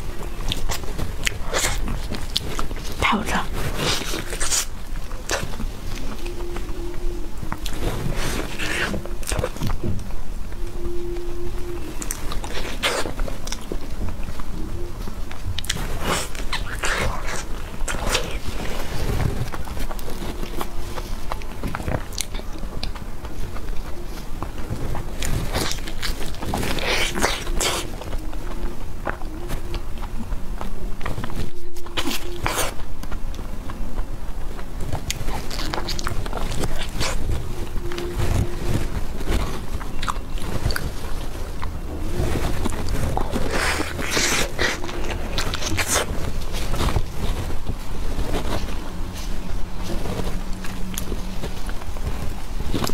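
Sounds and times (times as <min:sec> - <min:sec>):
person chewing wetly: 0:00.0 - 0:10.0, 0:10.8 - 0:47.8.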